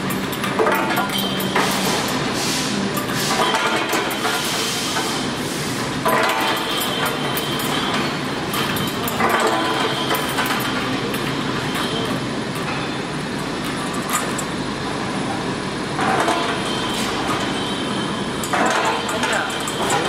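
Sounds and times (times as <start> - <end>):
machine mechanical noise: 0.0 - 20.0.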